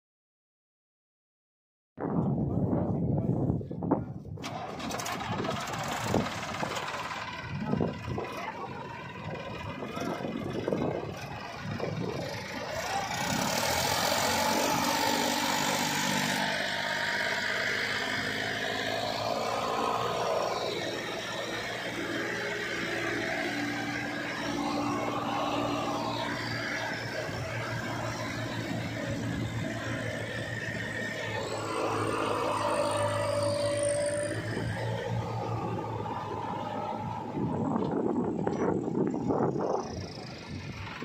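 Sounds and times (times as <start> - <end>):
tractor diesel engine running: 4.4 - 41.0.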